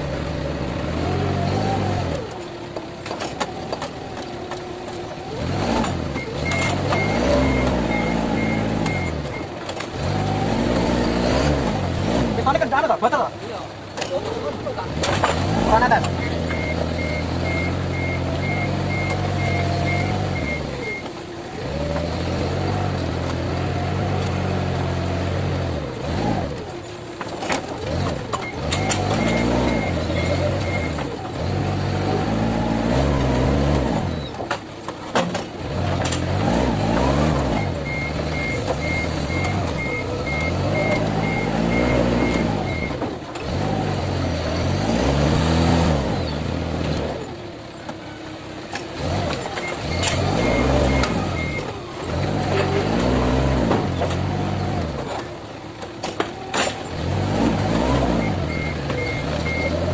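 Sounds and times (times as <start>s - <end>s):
forklift engine revving: 0.0s - 59.9s.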